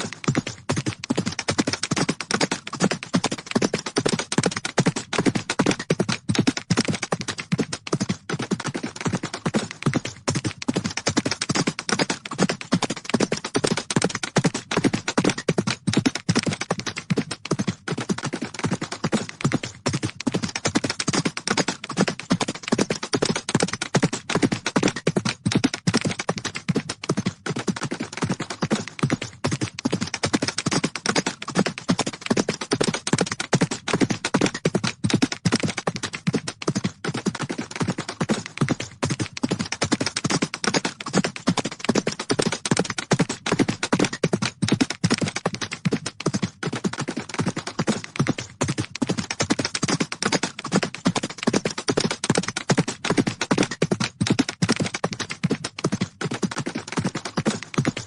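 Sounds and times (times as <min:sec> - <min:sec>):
horses galloping: 0:00.0 - 0:58.0.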